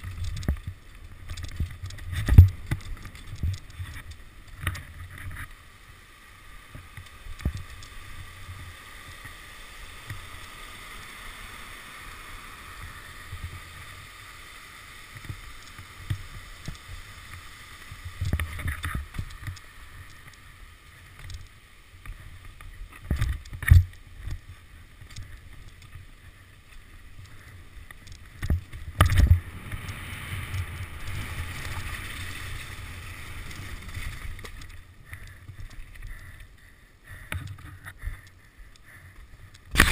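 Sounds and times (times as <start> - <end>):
bike rattling: 0.0 - 5.5, 6.7 - 9.2, 15.1 - 39.9
wind and tyres rumbling: 0.0 - 39.9.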